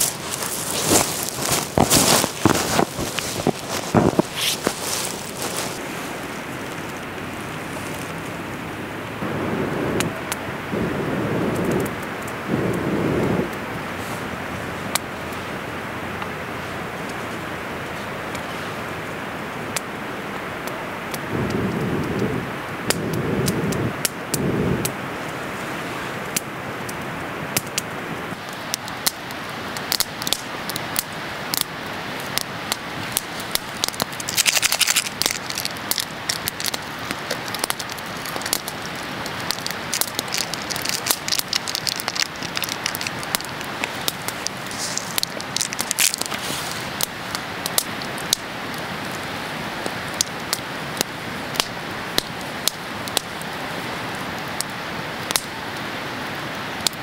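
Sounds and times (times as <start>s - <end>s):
campfire crackling and popping: 0.0s - 57.0s
fire hissing rushes: 0.0s - 57.0s.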